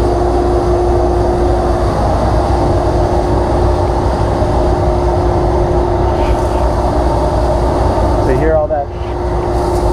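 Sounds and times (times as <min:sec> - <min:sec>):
dust collector humming: 0:00.0 - 0:09.9.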